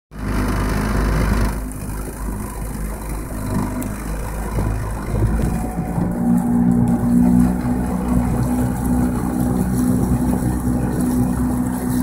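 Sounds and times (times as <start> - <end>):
boat motor humming: 0.1 - 12.0.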